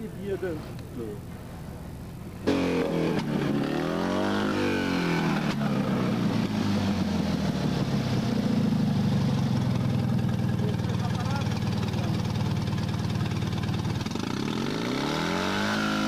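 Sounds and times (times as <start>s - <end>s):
car engine revving and idling: 2.3s - 16.0s.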